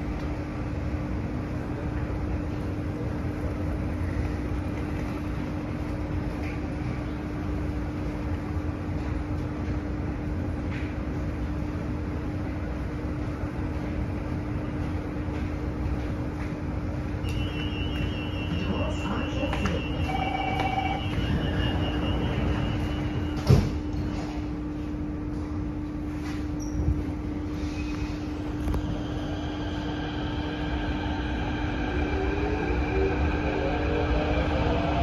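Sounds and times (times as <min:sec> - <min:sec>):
metro train equipment humming: 0:00.0 - 0:35.0.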